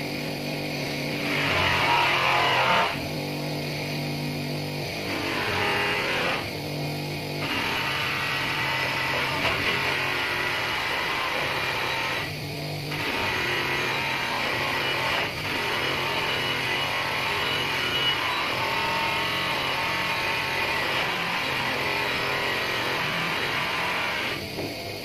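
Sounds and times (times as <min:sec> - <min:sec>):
bench motor humming: 0:00.0 - 0:25.0.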